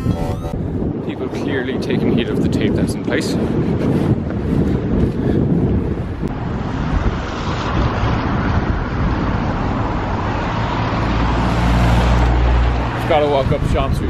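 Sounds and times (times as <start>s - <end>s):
vehicle traffic on road: 0.0s - 14.0s
wind gusts buffeting microphone: 0.0s - 14.0s.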